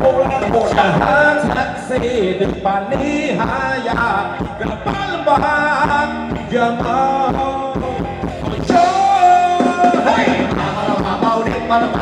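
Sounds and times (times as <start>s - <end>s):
live band playing dance music: 0.0s - 12.0s
person singing: 0.0s - 12.0s.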